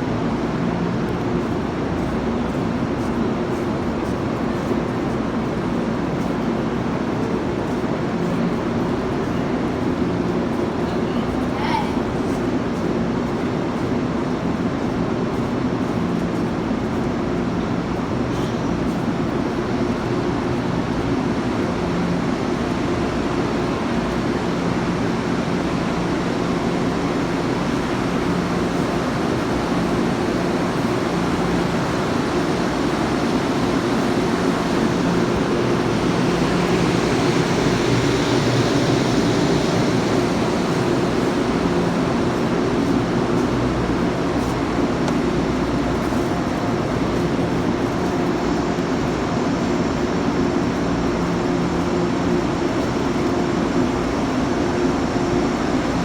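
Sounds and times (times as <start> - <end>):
electric train hum: 0.0 - 56.0.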